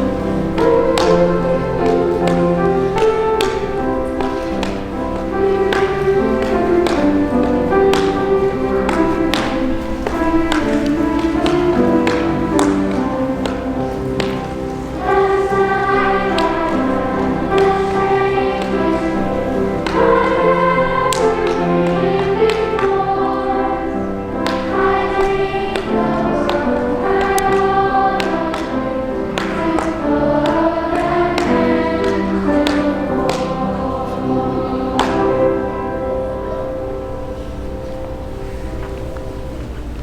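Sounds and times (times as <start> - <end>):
choir singing slow song: 0.0 - 39.9.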